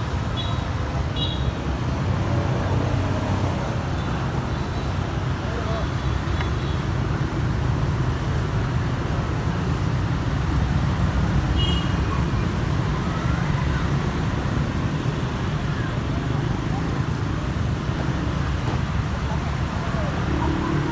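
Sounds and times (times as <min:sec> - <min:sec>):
road traffic rumble: 0:00.0 - 0:20.9.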